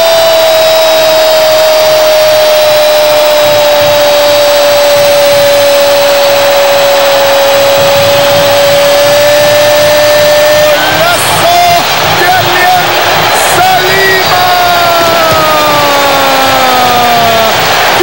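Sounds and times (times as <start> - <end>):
commentator shouting goal: 0.0 - 18.0
stadium crowd cheering: 0.0 - 18.0.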